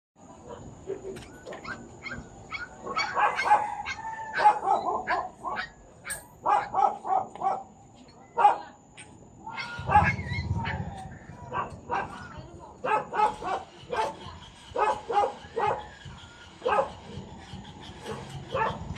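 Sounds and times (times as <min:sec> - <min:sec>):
dog barking and yipping: 0:01.6 - 0:07.7, 0:09.5 - 0:18.9.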